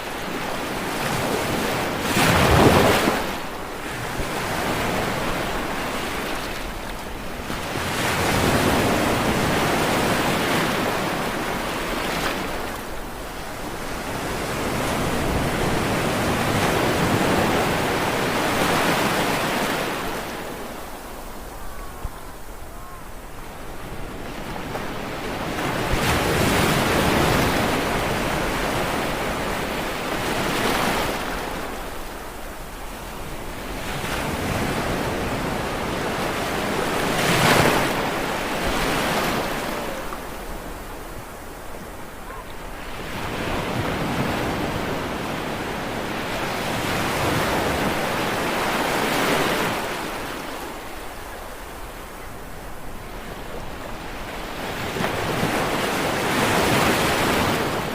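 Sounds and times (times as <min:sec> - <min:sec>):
sea waves breaking on shore: 0:00.0 - 0:57.9.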